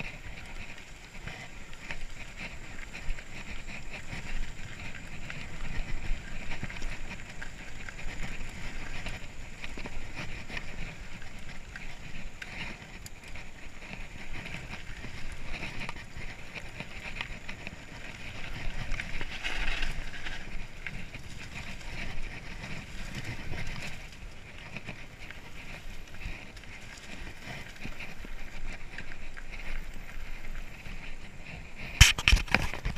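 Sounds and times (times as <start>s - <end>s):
bike frame and chain rattling: 0.0s - 32.9s
bike tyres on dirt trail: 0.0s - 32.9s.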